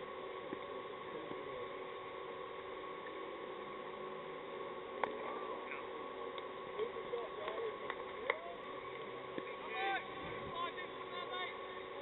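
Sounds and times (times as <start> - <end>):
faint steady hum: 0.0 - 12.0
open-air hiss: 0.0 - 12.0.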